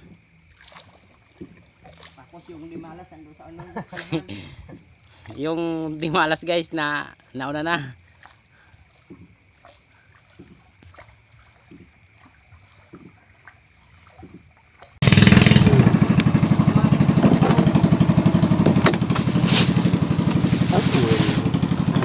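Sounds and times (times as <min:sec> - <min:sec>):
small boat engine puttering: 0:00.0 - 0:06.2, 0:07.9 - 0:22.0
high insect chirping: 0:00.0 - 0:22.0.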